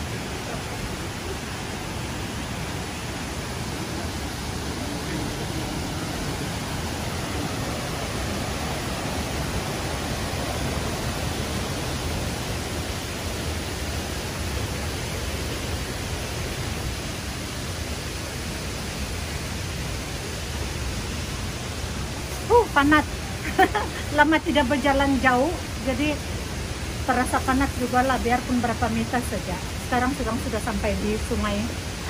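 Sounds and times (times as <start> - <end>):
waterfall and river rushing: 0.0 - 32.0.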